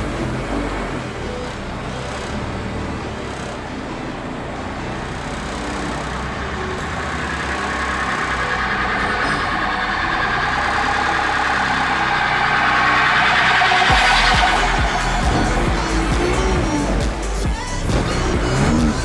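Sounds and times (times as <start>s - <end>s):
car engine while driving: 0.0s - 19.0s
road noise: 0.0s - 19.0s.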